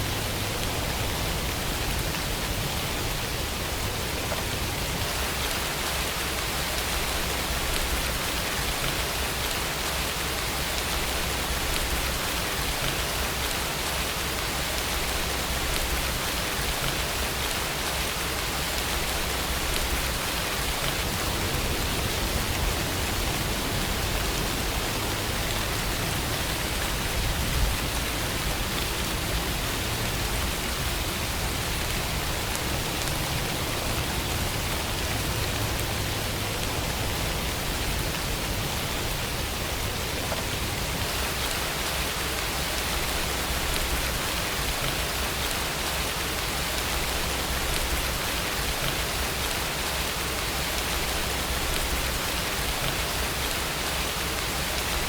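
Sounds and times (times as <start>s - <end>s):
rainfall hiss: 0.0s - 55.0s.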